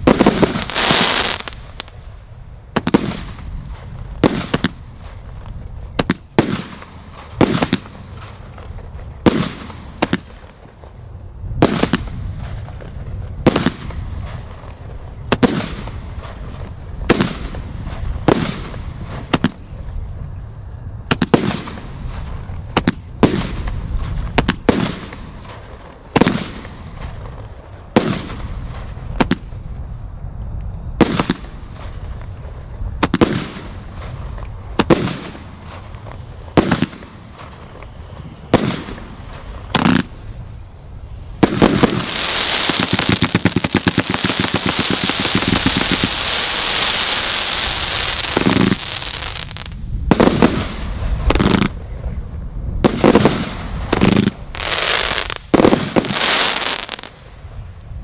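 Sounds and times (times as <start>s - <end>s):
firework shells bursting: 0.0s - 2.0s, 2.7s - 51.9s, 52.8s - 57.8s.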